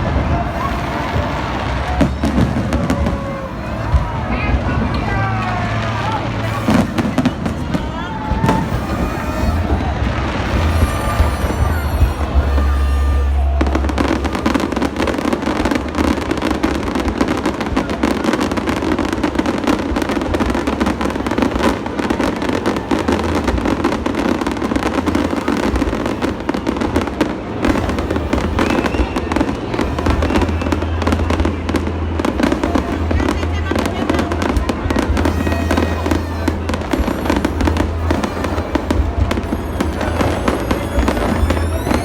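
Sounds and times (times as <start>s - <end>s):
fireworks bangs and crackles: 0.0s - 42.0s
music playing: 0.0s - 42.0s.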